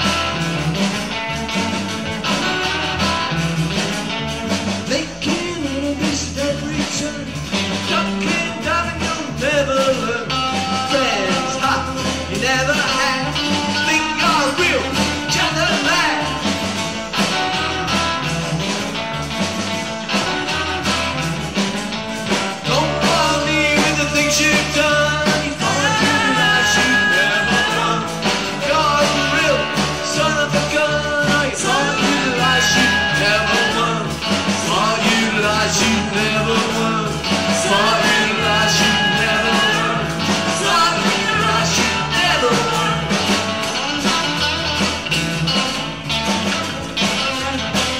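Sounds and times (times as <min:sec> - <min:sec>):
acoustic guitars: 0:00.0 - 0:47.9
bass: 0:00.0 - 0:47.9
high held lead notes: 0:00.0 - 0:47.9
live blues rock band: 0:00.0 - 0:47.9.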